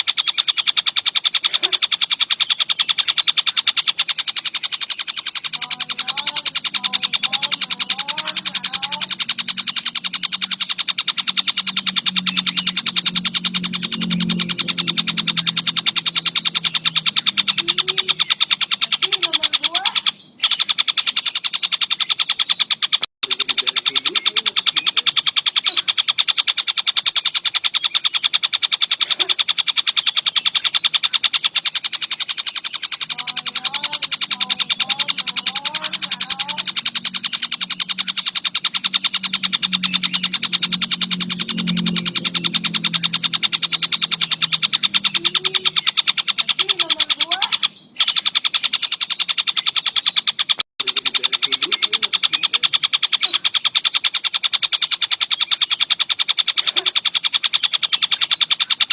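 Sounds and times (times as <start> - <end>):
low hum: 0.0 - 22.2, 23.3 - 49.9
kingfisher chattering call: 0.0 - 58.9.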